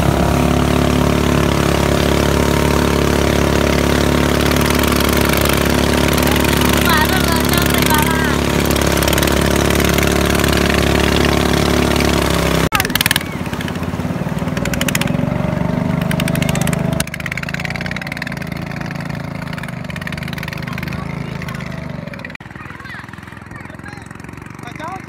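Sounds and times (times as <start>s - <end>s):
boat engine running: 0.0s - 25.0s
water rushing past hull: 0.0s - 25.0s.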